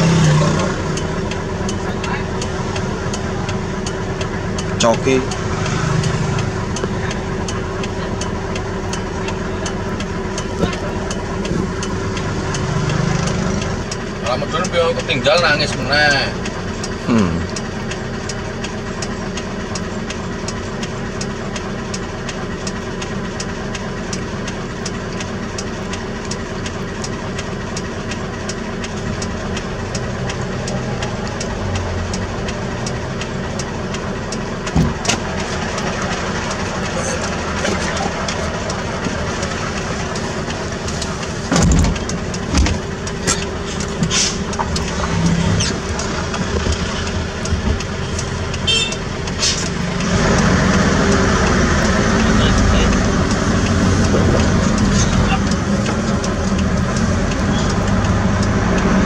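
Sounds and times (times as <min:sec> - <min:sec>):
diesel engine running: 0:00.0 - 0:59.0
light ticking: 0:00.0 - 0:59.0.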